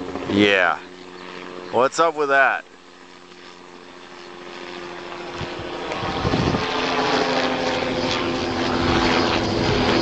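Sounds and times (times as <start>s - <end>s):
helicopter flying overhead: 0.0s - 10.0s.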